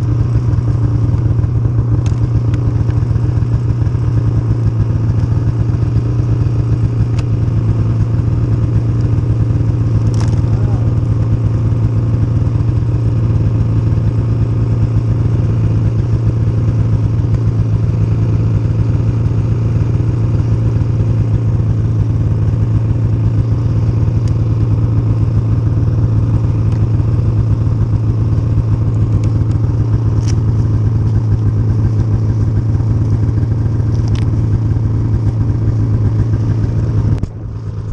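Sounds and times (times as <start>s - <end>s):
snowmobile engine running: 0.0s - 37.9s.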